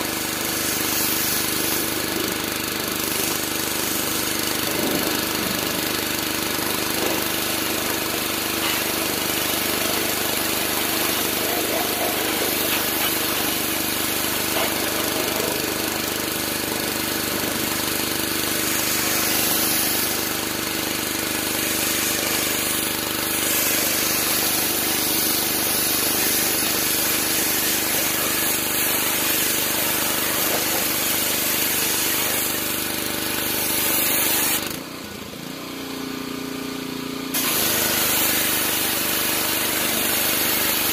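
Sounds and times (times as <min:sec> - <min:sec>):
pressure washer spray hissing: 0:00.0 - 0:34.7, 0:37.3 - 0:40.9
washer motor and pump hum: 0:00.0 - 0:40.9.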